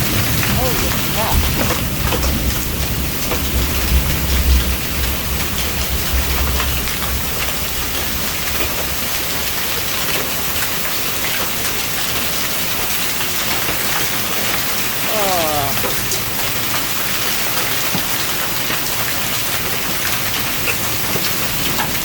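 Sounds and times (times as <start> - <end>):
hailstones ticking on hard surfaces: 0.0 - 14.9, 16.1 - 22.0
hail and heavy rain: 0.0 - 22.0.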